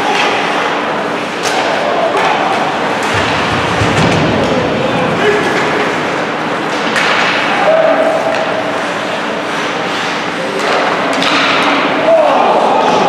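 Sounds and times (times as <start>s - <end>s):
puck and sticks hitting boards: 0.0s - 12.2s.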